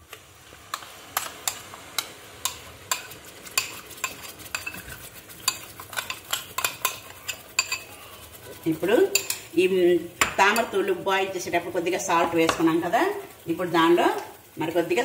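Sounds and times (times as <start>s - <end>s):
soft steady sizzle: 0.0s - 15.0s
spoon scraping and tapping pan: 0.1s - 11.0s, 12.1s - 13.5s.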